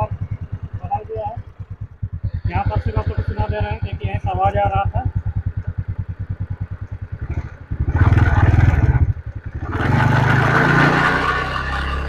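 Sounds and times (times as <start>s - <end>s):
engine rattle: 0.0s - 12.0s
scooter engine idling and revving: 0.0s - 12.0s.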